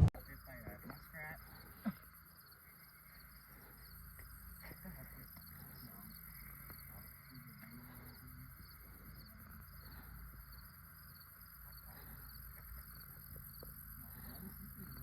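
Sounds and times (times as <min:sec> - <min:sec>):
crickets chirping: 0:00.1 - 0:15.0
high insect trill: 0:00.1 - 0:15.0.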